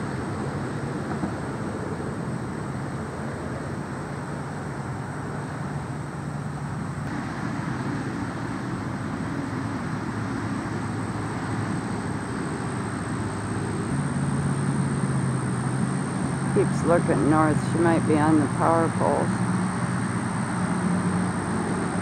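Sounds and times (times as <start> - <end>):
distant traffic rumble: 0.0 - 22.0
engine hum: 0.0 - 22.0.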